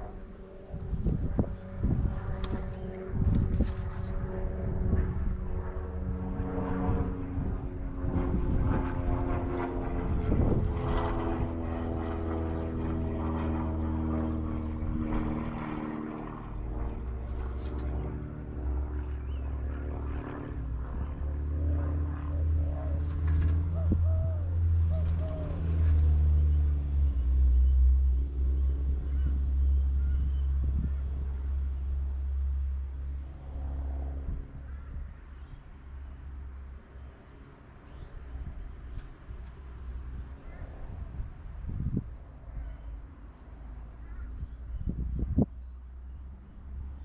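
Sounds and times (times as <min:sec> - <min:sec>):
steady engine drone: 0:00.0 - 0:47.0.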